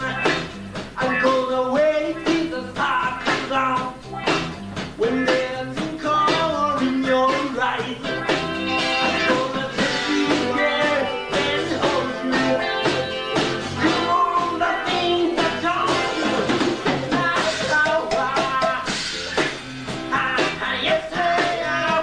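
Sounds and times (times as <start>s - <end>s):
lead vocal singing: 0.0s - 4.0s, 4.9s - 19.0s, 20.1s - 22.0s
drum hits: 0.0s - 22.0s
live rock band playing: 0.0s - 22.0s.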